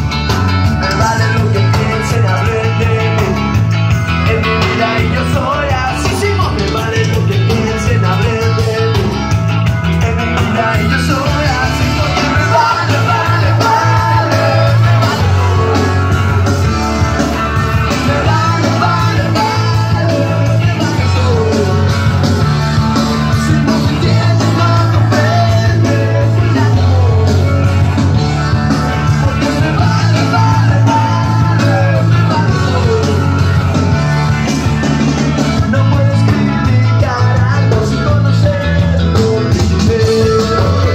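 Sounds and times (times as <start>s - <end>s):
rock and roll song over sound system: 0.0s - 40.9s.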